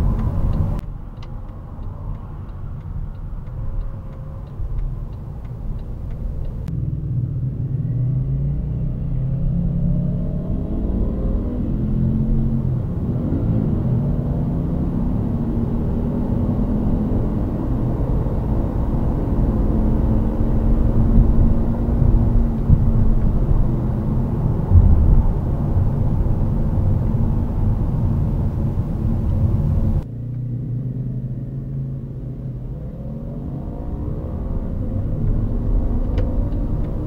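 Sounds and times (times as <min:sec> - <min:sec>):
low engine drone: 0:00.0 - 0:37.0
road and tyre rumble: 0:00.0 - 0:37.0.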